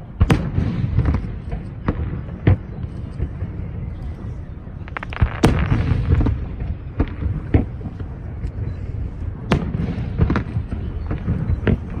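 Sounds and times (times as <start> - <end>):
fireworks sharp bangs: 0.0 - 12.0
low rumble of explosions: 0.0 - 12.0.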